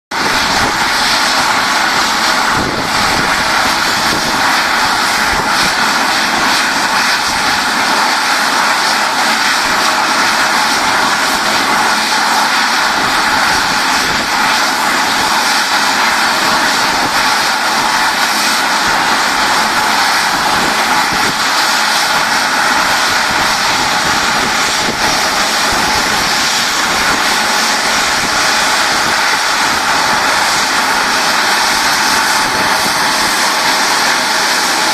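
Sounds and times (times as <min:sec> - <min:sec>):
airliner engines running: 0:00.1 - 0:34.9.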